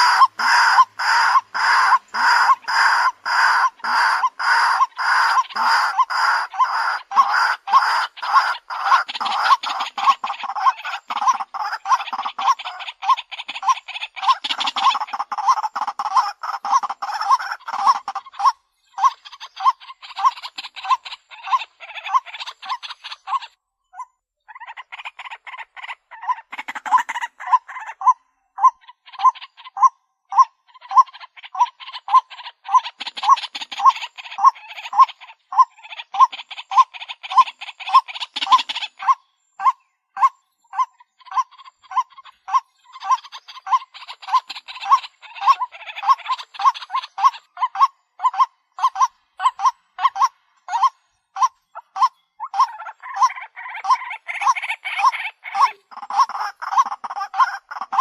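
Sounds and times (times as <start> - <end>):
bird harsh calls: 0.0 - 58.0.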